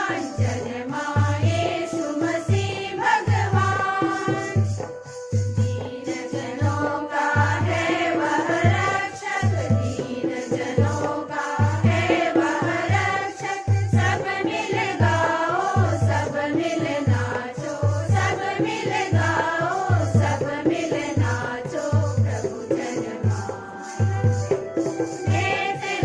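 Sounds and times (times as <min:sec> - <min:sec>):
choir singing a carol: 0:00.0 - 0:04.8, 0:05.6 - 0:26.0.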